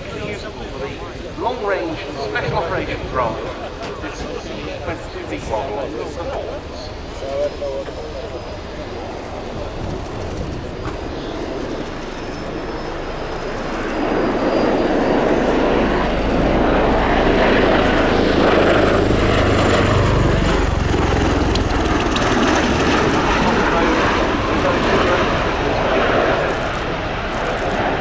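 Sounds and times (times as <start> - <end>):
tiltrotor aircraft flying: 0.0 - 28.0.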